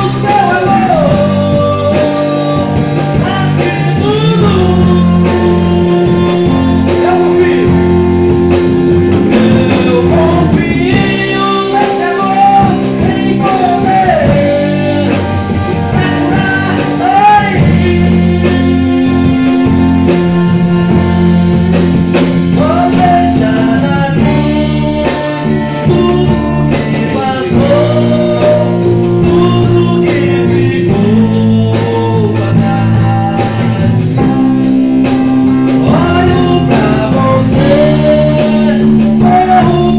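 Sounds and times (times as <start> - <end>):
held bass notes: 0.0 - 39.9
sliding lead melody: 0.0 - 39.9
steady drum beat: 0.0 - 39.9.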